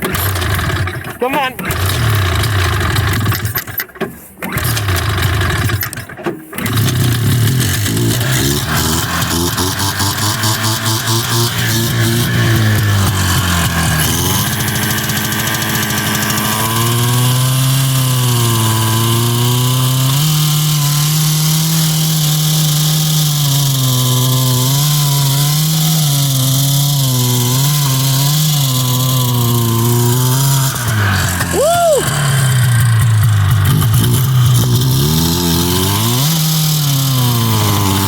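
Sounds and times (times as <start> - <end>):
snowmobile engine revving: 0.0 - 3.8, 4.4 - 38.0.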